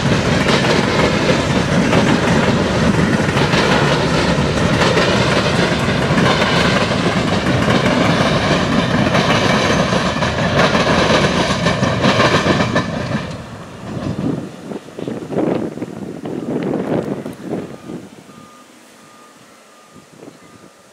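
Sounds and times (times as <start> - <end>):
freight train clickety-clack: 0.0 - 18.0.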